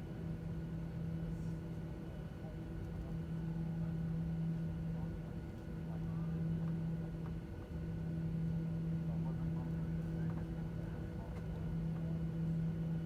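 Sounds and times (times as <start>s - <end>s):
airliner cabin hum: 0.0s - 13.0s
faint passenger voices: 0.2s - 13.0s.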